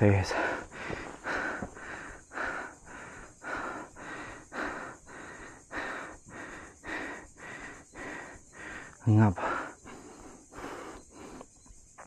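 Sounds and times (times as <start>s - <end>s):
person panting hard: 0.3s - 11.5s.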